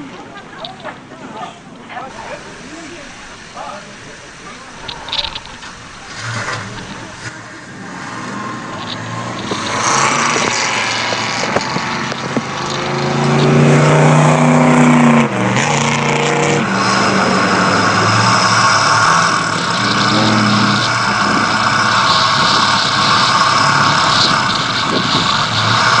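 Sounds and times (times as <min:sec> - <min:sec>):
car engine revving: 0:00.0 - 0:26.0
road and wind noise: 0:00.0 - 0:26.0.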